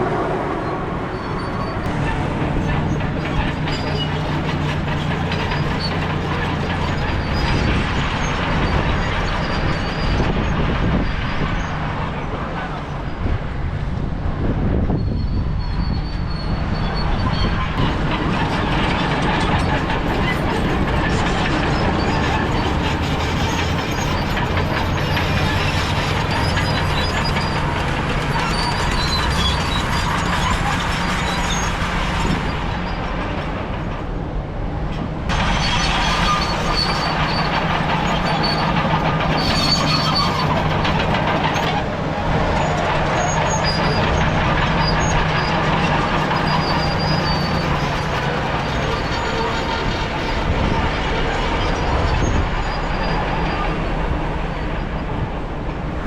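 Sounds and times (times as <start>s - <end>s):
bulldozer diesel engine running: 0.0s - 14.4s, 15.0s - 56.0s
clatter of tracks: 0.0s - 56.0s.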